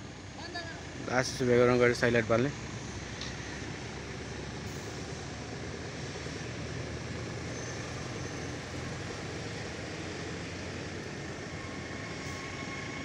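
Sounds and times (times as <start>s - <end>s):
minibus engine running: 0.0s - 13.0s.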